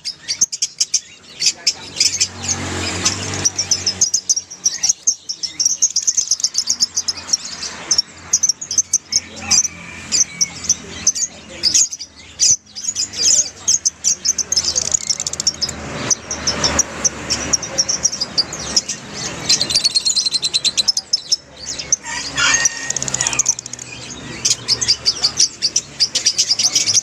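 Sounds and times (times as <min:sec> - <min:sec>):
lovebirds chattering shrill chirps: 0:00.0 - 0:27.0.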